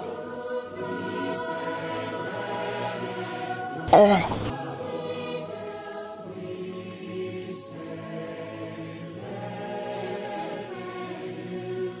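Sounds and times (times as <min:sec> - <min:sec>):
choir and music sustained chords: 0:00.0 - 0:12.0.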